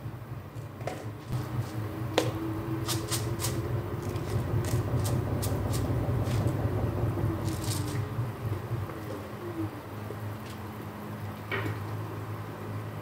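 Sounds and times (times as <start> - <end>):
gas burner rumble: 0.0 - 13.0.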